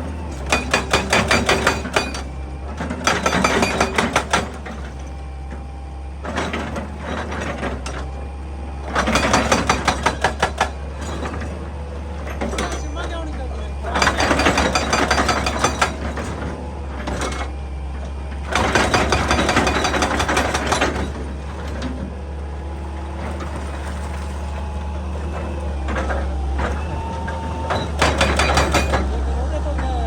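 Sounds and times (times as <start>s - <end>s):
excavator engine hum: 0.0s - 30.0s.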